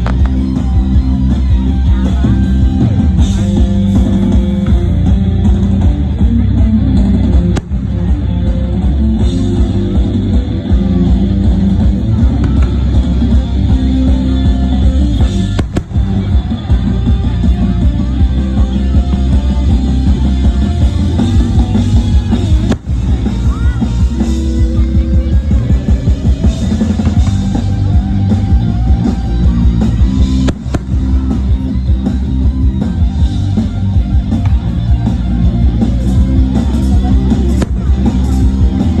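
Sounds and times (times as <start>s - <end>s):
loud rock music: 0.0s - 39.0s.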